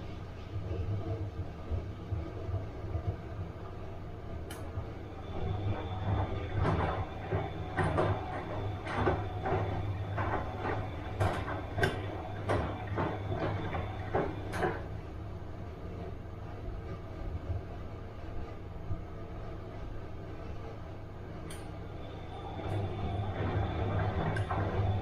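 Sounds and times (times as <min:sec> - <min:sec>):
washing machine drum swishing: 0:00.0 - 0:25.0
washing machine motor hum: 0:00.0 - 0:25.0.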